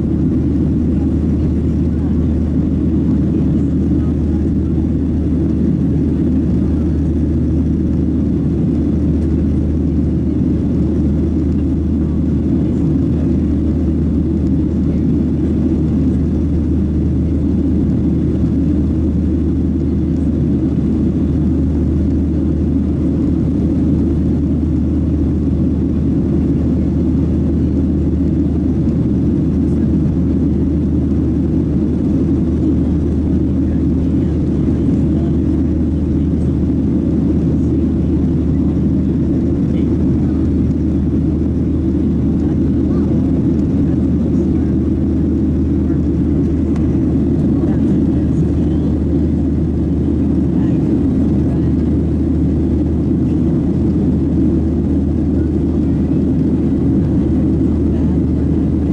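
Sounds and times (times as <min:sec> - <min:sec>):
airplane cabin engine rumble: 0:00.0 - 0:58.9.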